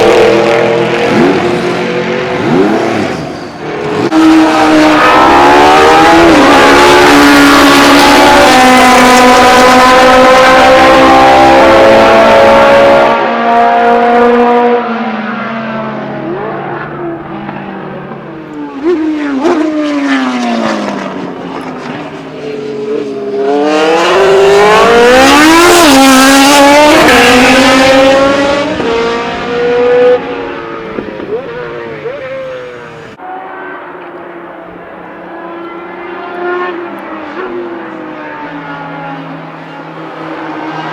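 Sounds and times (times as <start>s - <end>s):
racing car engines passing: 0.0s - 40.9s.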